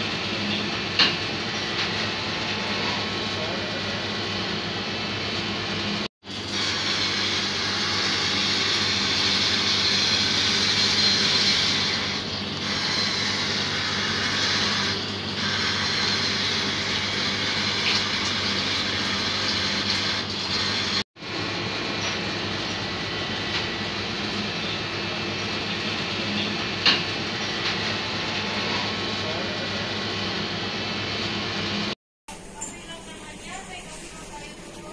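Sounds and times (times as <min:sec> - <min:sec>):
oven fan running: 0:00.0 - 0:34.9.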